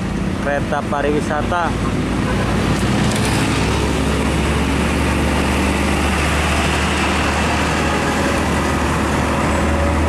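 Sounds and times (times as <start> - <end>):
heavy vehicle engine drone: 0.0 - 10.0
tyre and road noise: 0.0 - 10.0.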